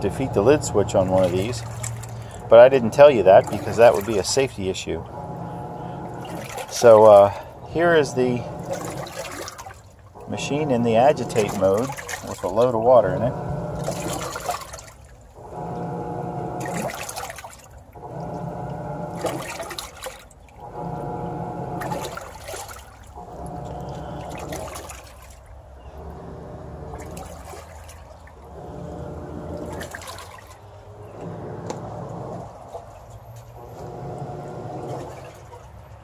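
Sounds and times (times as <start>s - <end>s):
washer motor humming: 0.0s - 36.0s
water swishing: 0.0s - 36.0s.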